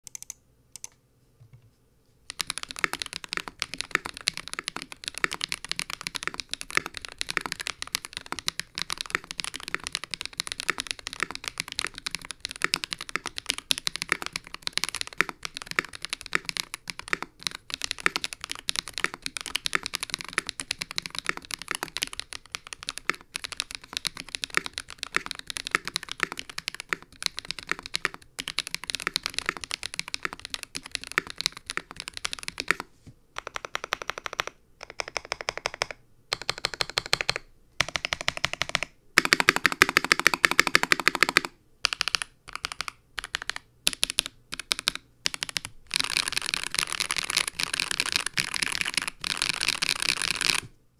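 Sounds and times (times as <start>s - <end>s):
fast mechanical keyboard typing: 0.0s - 0.9s, 2.3s - 50.7s.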